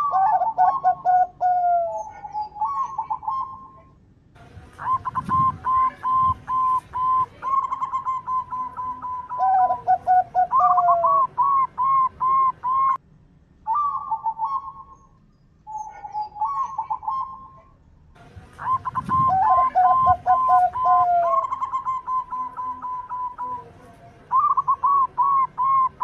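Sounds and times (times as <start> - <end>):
doves cooing: 0.0 - 4.0, 4.7 - 13.0, 13.7 - 15.1, 15.7 - 17.8, 18.4 - 26.0.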